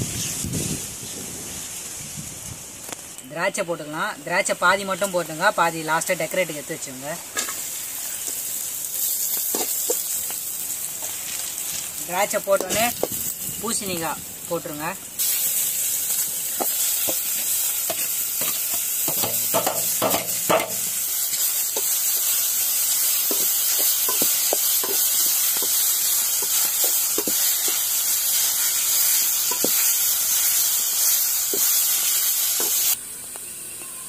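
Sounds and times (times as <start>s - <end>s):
food sizzling in hot fat: 0.0s - 34.0s.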